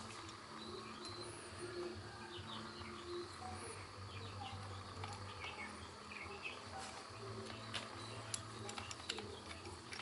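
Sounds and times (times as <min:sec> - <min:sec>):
faint chirping: 0:00.0 - 0:10.0.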